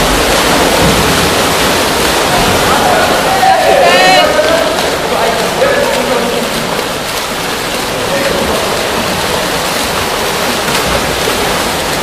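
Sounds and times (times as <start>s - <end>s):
swimmers splashing: 0.0s - 12.0s.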